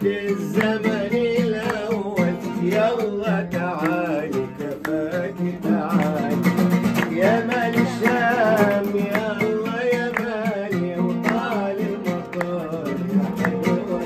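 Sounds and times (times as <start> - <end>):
hand clapping: 0.0 - 14.0.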